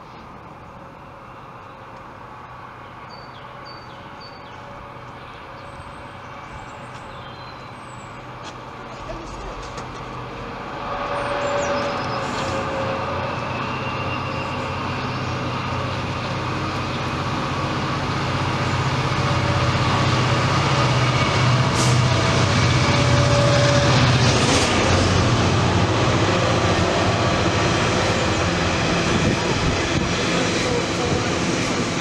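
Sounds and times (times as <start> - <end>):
diesel locomotive engine: 0.0 - 32.0
freight wagons rumbling on rails: 0.0 - 32.0.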